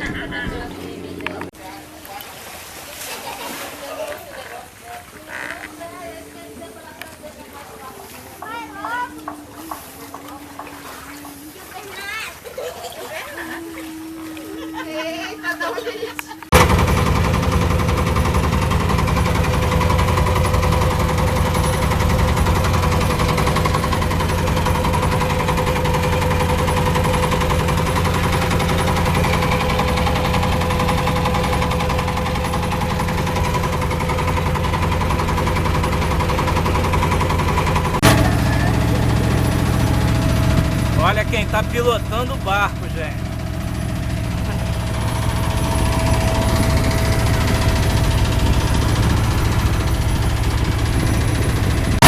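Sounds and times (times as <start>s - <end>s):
small boat engine chugging: 0.0s - 52.0s.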